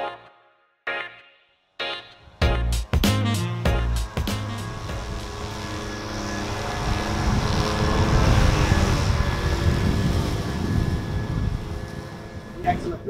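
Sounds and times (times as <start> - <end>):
riding lawn mower engine: 2.4 - 13.0.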